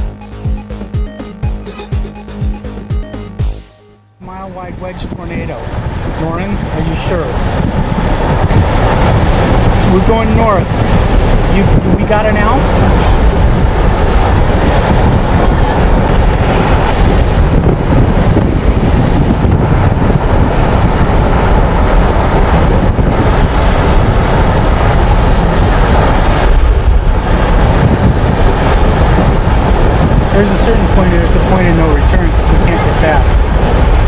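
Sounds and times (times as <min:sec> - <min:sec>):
wind buffeting microphone: 0:04.2 - 0:34.0.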